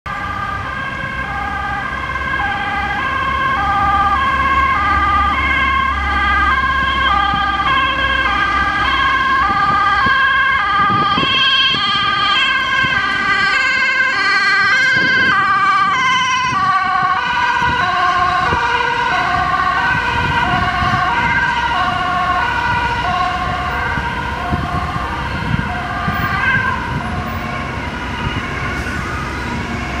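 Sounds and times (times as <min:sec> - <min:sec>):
motorway traffic hum: 0:00.1 - 0:30.0
two-tone emergency siren: 0:00.1 - 0:30.0.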